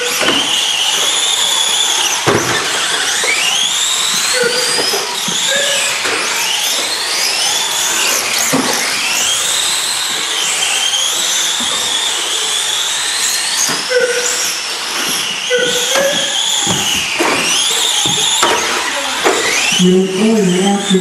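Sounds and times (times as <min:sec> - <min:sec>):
model car motors whining: 0:00.0 - 0:21.0.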